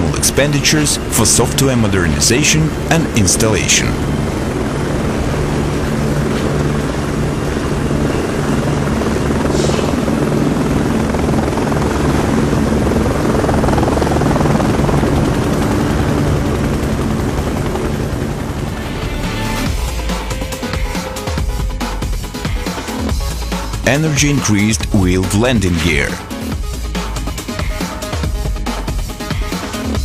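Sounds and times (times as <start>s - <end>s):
helicopter rotor and engines: 0.0s - 30.0s.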